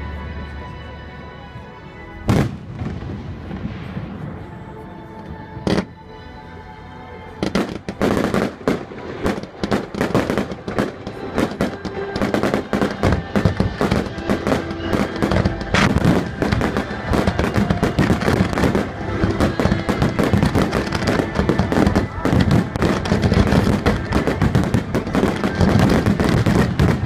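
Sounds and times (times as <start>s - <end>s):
music playing: 0.0s - 27.0s
fireworks bangs and crackling: 2.3s - 4.6s, 7.4s - 27.0s.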